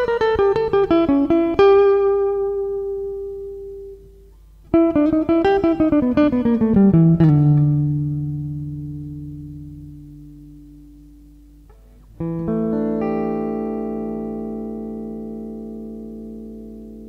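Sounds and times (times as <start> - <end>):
jazz guitar runs: 0.0 - 17.0.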